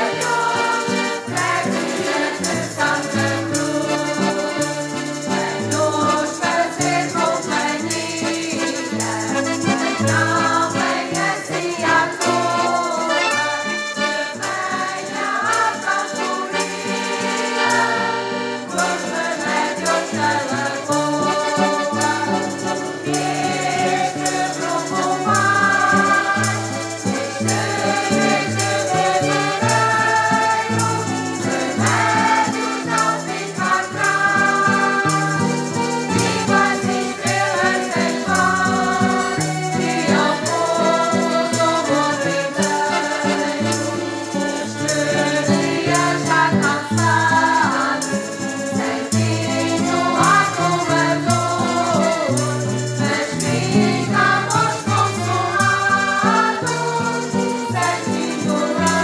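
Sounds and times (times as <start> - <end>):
accordions playing: 0.0 - 59.0
acoustic guitar: 0.0 - 59.0
mixed choir singing folk song: 0.0 - 59.0.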